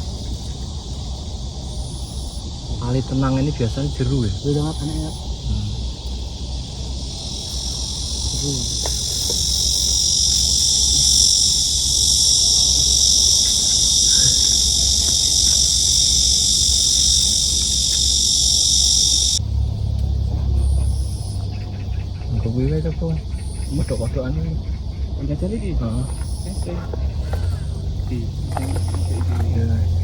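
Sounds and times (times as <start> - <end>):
insect chorus buzzing: 0.0 - 30.0.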